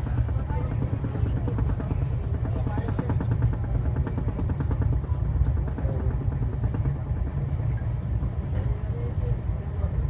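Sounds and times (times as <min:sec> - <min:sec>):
passenger train rumbling: 0:00.0 - 0:10.0.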